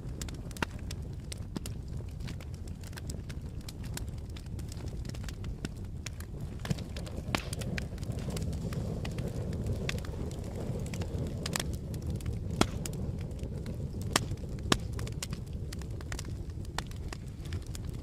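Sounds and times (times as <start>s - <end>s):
burning wood crackling and popping: 0.0s - 18.0s
campfire flames rumbling: 0.0s - 18.0s.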